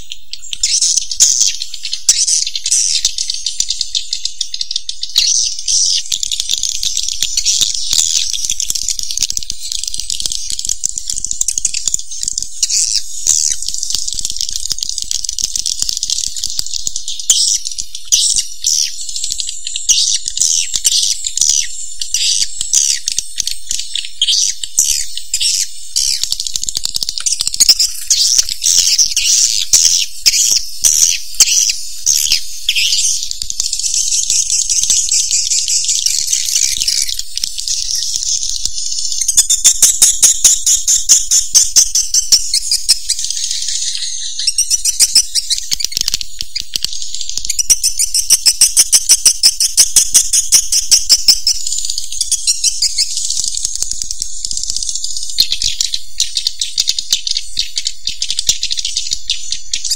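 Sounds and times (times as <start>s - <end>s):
recorded swiftlet chirping: 0.0s - 59.9s.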